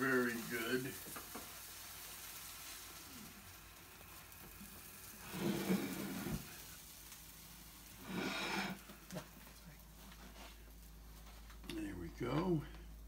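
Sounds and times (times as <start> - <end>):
sandwich sizzling in a frying pan: 0.0 - 11.6.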